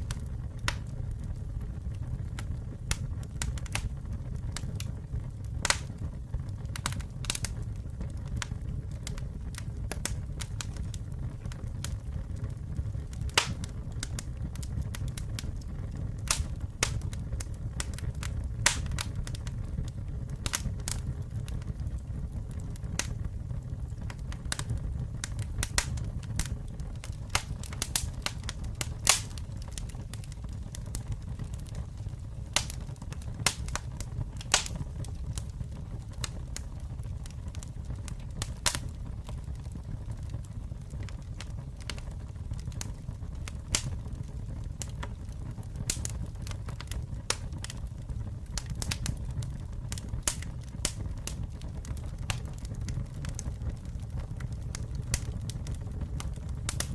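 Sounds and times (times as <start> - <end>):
burning wood crackling and popping: 0.0 - 56.9
campfire low rumble: 0.0 - 56.9.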